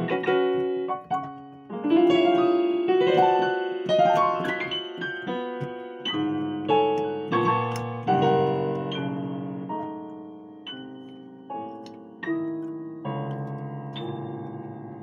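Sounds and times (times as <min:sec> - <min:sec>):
digital piano playing: 0:00.0 - 0:15.0.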